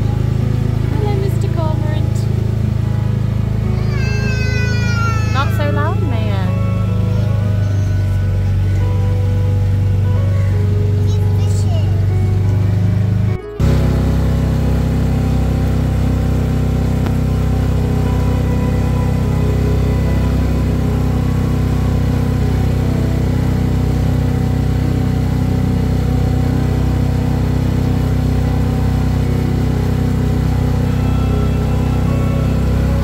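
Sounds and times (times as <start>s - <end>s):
motorboat engine running: 0.0s - 33.0s.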